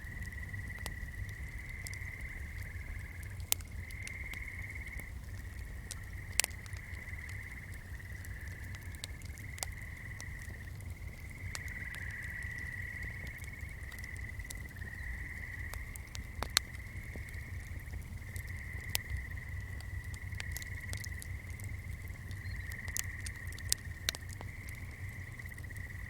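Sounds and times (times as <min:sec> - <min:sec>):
frogs trilling: 0:00.0 - 0:26.0
small fire crackling: 0:00.0 - 0:26.0.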